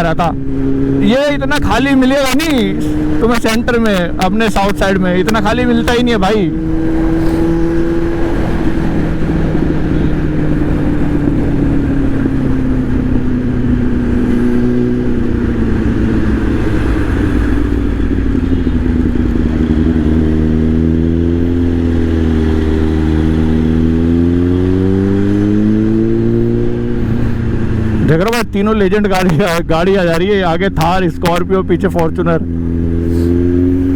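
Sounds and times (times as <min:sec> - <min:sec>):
motorcycle engine cruising: 0:00.0 - 0:33.9.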